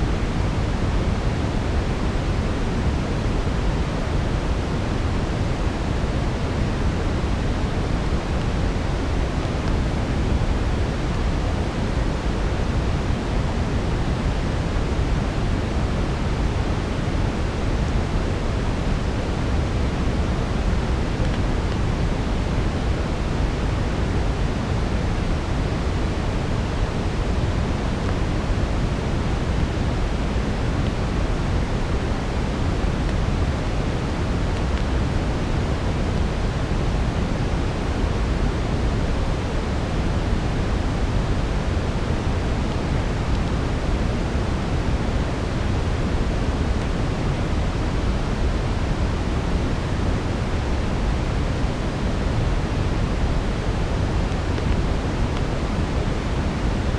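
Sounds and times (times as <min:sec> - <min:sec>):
steady brown noise: 0:00.0 - 0:56.9.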